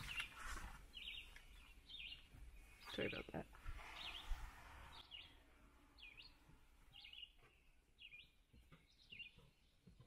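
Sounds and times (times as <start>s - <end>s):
faint bird chirping: 0.0s - 10.0s.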